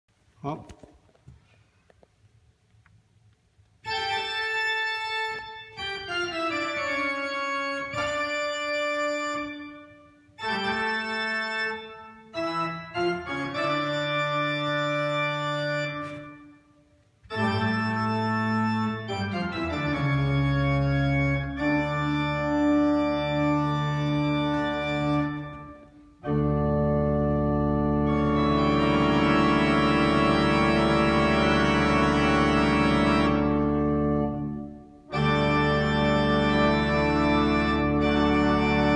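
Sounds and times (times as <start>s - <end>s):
pipe organ chords: 3.8s - 38.9s.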